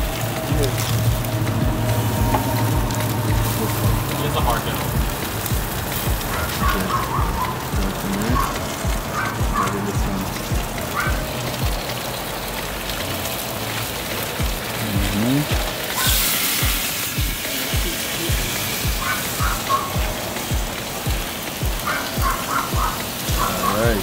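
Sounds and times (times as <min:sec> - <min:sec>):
afrobeat music with kick drum: 0:00.0 - 0:24.0
fat sizzling on hot grill: 0:00.0 - 0:24.0.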